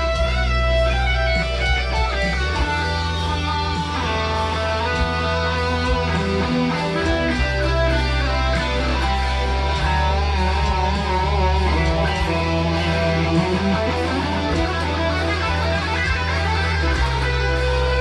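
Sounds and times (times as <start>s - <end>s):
electric guitar playing: 0.0s - 18.0s.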